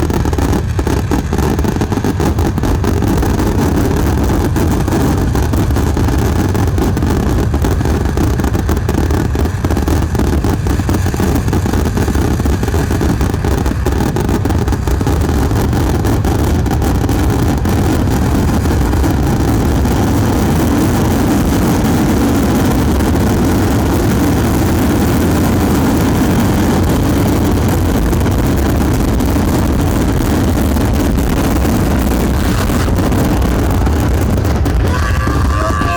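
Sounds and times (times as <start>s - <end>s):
fireworks crackle: 0.0s - 35.9s
fireworks explosions: 0.0s - 35.9s.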